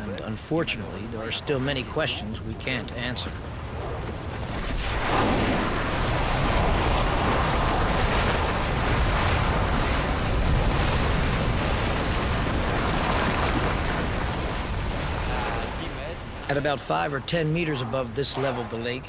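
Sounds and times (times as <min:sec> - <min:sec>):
deep rumble: 0:00.0 - 0:16.9
lava churning and spattering: 0:00.0 - 0:18.9.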